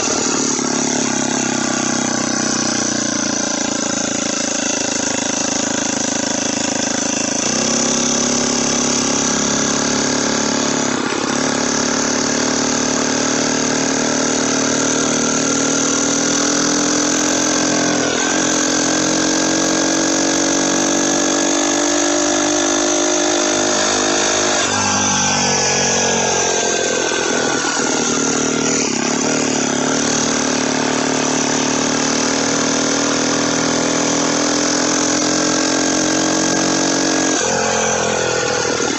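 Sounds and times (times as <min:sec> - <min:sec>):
motorized bicycle engine running: 0:00.0 - 0:38.9.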